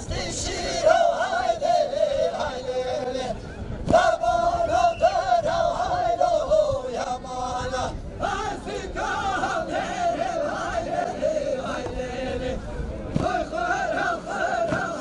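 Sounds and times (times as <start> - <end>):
men singing unaccompanied: 0.0 - 15.0.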